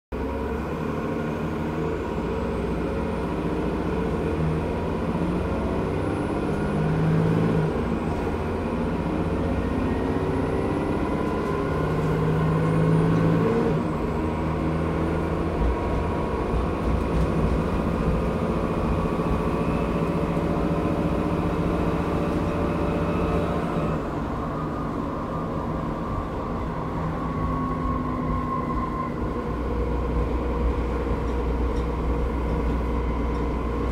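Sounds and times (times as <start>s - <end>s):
bus diesel engine running: 0.1s - 33.9s
high drivetrain whine: 0.2s - 33.9s.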